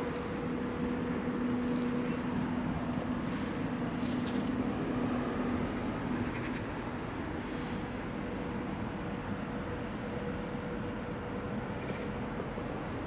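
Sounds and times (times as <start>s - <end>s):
vehicle drone and rumble: 0.0s - 13.0s.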